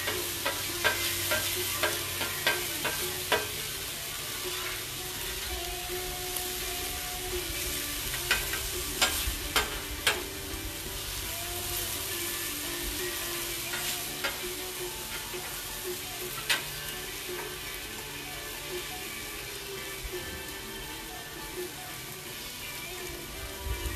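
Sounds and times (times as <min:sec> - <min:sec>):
food sizzling on a griddle: 0:00.0 - 0:23.9
metal spatula scraping griddle: 0:00.0 - 0:23.9.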